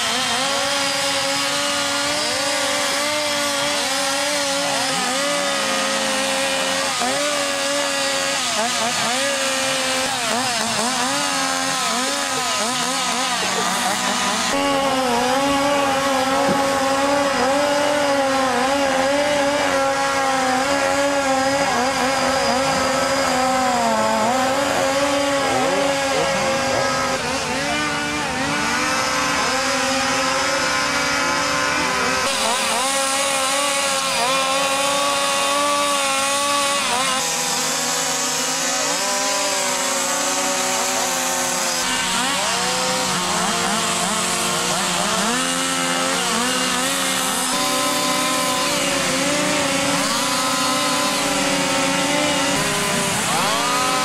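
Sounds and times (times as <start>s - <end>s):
chainsaws revving: 0.0s - 54.0s.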